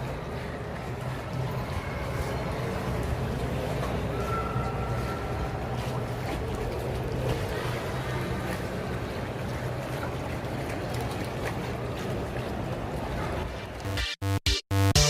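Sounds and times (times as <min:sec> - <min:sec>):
low constant hum: 0:00.0 - 0:13.8.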